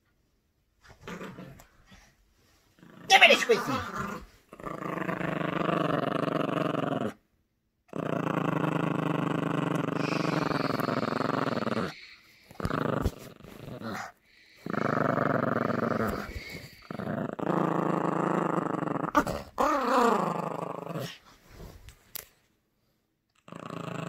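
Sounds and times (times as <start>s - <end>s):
puppy growling: 0.9s - 1.8s, 2.8s - 7.2s, 7.9s - 21.2s, 23.4s - 24.0s.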